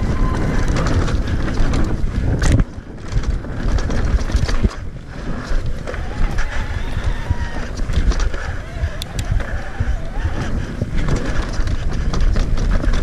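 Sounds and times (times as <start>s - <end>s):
bike tyres rattling on trail: 0.0s - 13.0s
wind buffeting microphone: 0.0s - 13.0s.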